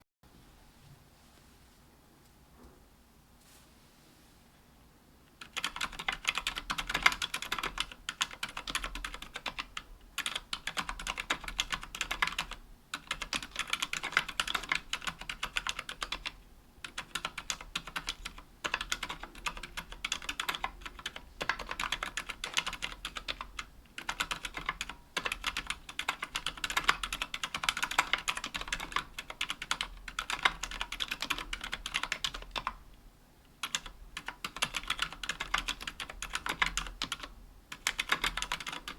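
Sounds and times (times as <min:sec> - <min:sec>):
mechanical keyboard typing: 0:05.4 - 0:32.8, 0:33.6 - 0:38.9.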